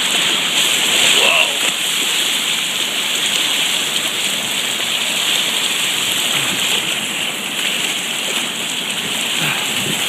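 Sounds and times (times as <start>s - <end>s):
floodwater rushing: 0.0s - 10.0s
rain falling: 0.0s - 10.0s.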